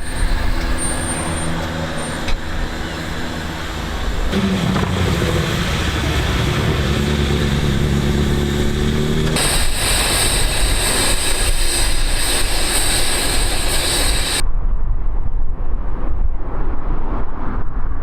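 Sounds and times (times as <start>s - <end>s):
engine running: 0.0s - 14.4s
loud shrill hissing: 0.0s - 14.4s.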